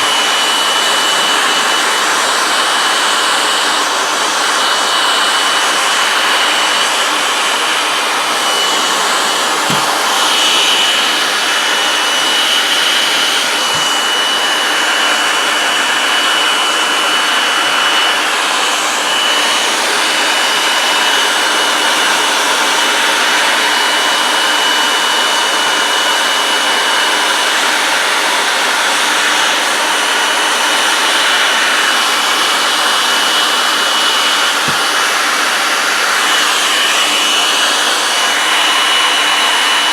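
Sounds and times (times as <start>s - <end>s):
hot-air blower running: 0.0s - 39.9s.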